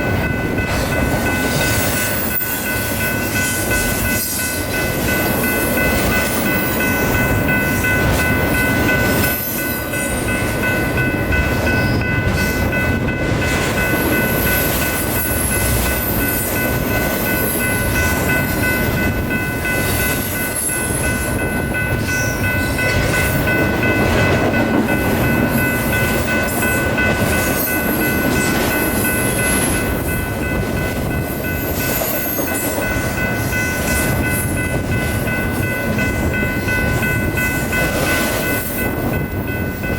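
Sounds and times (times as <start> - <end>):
rumble of rail cars: 0.0 - 39.9
steady high tones: 0.0 - 39.9.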